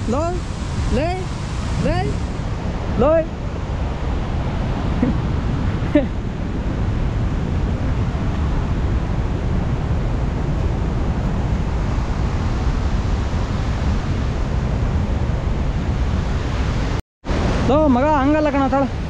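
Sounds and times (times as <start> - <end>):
waterfall roaring: 0.0 - 6.8, 7.7 - 19.0
wind buffeting microphone: 0.0 - 19.0.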